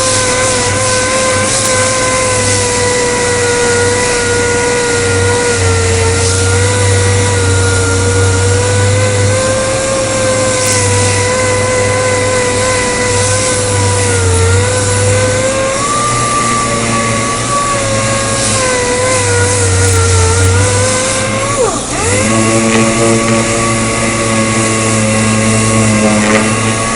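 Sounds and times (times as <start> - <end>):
power tool motor whining: 0.0 - 26.9.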